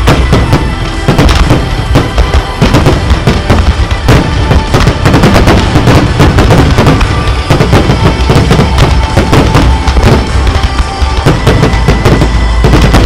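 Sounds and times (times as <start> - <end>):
fireworks bursting and crackling: 0.0 - 13.0
music playing: 0.0 - 13.0.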